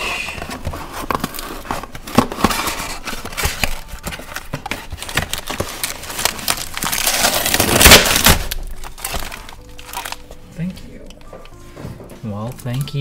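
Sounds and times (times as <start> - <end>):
packing paper crinkling: 0.3 - 11.6.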